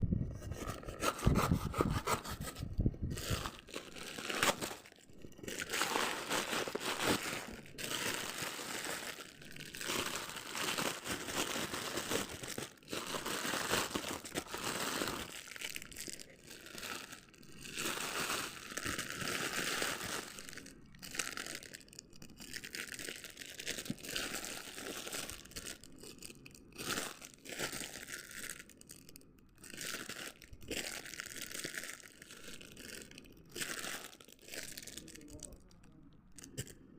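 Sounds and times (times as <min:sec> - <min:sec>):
plastic and card crinkling: 0:00.4 - 0:36.8.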